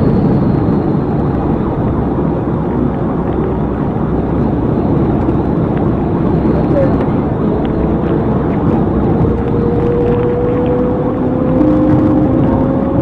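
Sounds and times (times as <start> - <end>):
car road noise at highway speed: 0.0 - 13.0.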